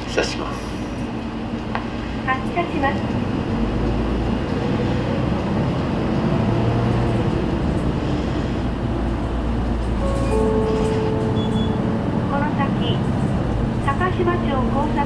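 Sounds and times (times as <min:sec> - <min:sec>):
bus engine running: 0:00.0 - 0:15.0
low cabin rumble: 0:00.0 - 0:15.0.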